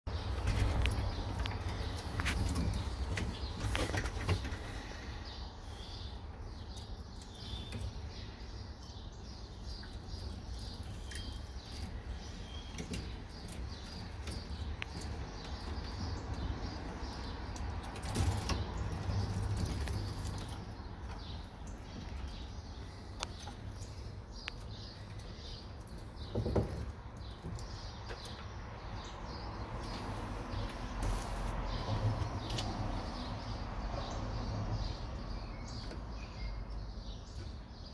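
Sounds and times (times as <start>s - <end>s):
squirrels scuffling: 0.1s - 33.3s.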